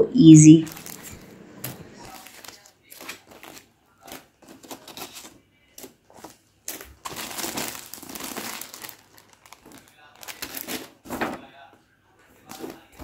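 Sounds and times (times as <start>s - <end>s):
plastic sheets crinkling: 0.7s - 11.5s, 12.4s - 13.0s.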